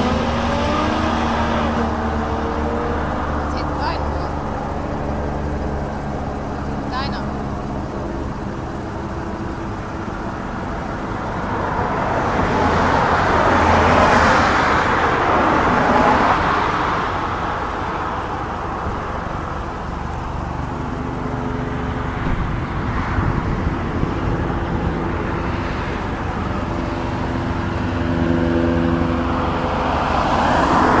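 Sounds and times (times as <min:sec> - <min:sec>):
car engine running: 0:00.0 - 0:31.0
passing road vehicles: 0:00.0 - 0:31.0.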